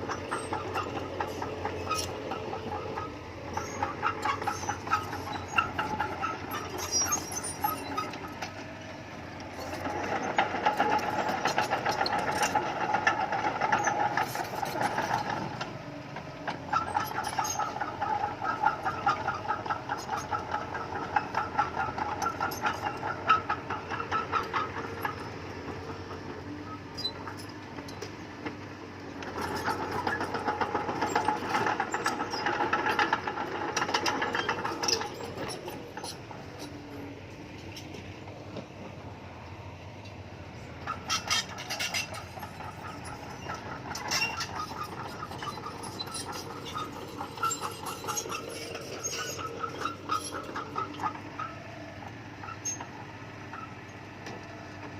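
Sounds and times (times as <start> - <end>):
bulldozer engine running: 0.0 - 54.9.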